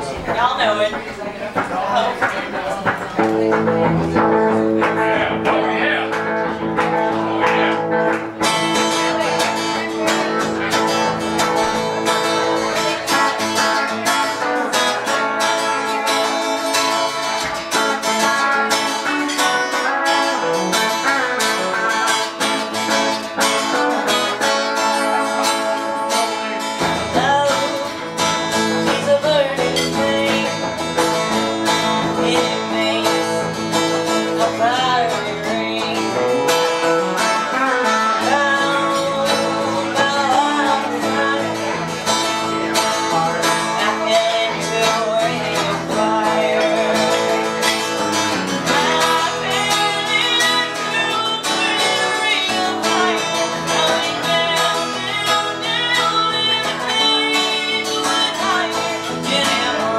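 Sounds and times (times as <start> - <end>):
acoustic guitar strumming: 0.0 - 59.9
woman singing: 8.8 - 59.9.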